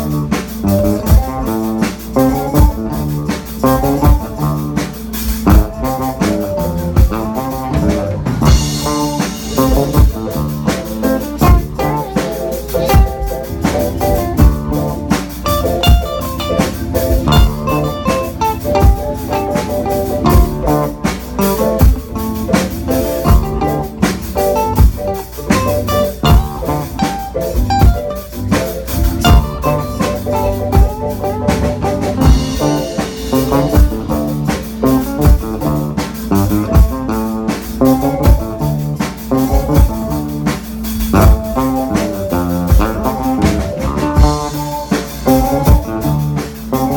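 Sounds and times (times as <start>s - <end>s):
drum kit steady beat: 0.0s - 46.9s
live band playing: 0.0s - 46.9s.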